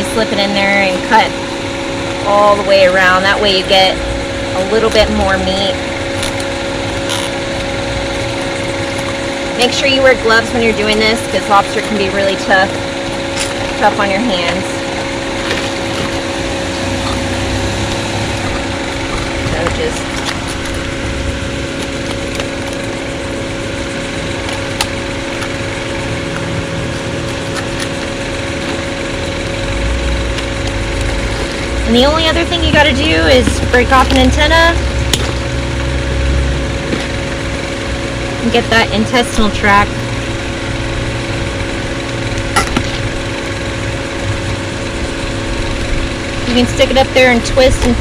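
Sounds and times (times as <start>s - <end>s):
steady motor hum: 0.0s - 48.0s.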